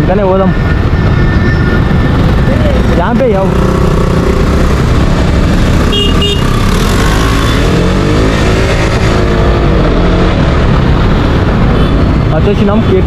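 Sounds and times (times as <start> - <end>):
city traffic: 0.0 - 13.0
motorcycle engine running: 0.8 - 12.8.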